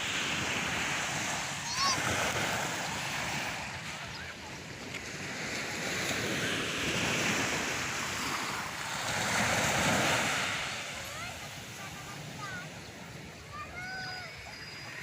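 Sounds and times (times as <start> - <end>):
sea waves breaking on shore: 0.0 - 15.0.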